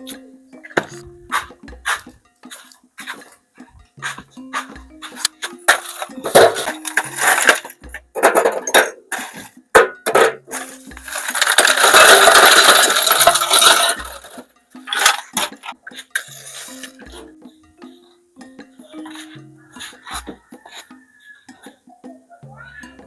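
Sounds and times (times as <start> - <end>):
metal pots and dishes clinking: 0.0 - 23.0
soft background music: 0.0 - 23.0.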